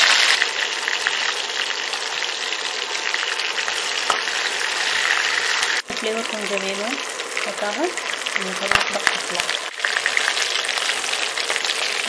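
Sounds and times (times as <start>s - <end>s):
prawns frying in hot oil: 0.0s - 12.0s.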